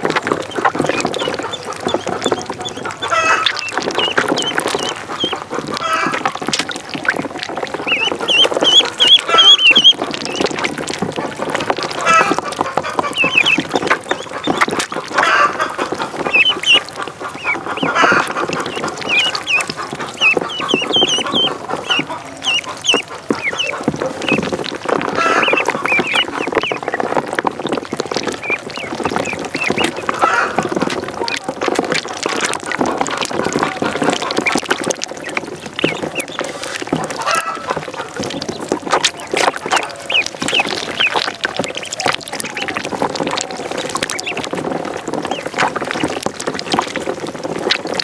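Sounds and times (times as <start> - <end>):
ducklings peeping: 0.0 - 48.0
lower fowl calls: 0.4 - 10.6, 11.8 - 31.4, 32.4 - 44.6.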